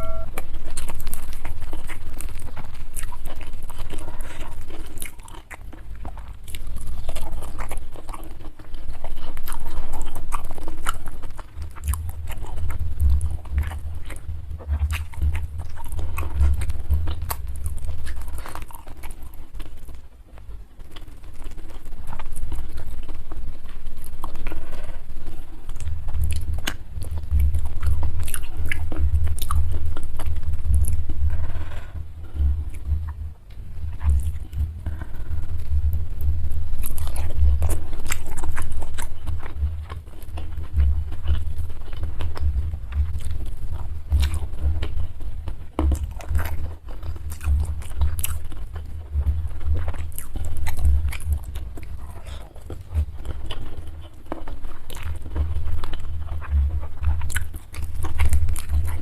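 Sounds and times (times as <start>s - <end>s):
low chewing thuds: 0.0s - 59.0s
person chewing crunchy food: 0.0s - 59.0s.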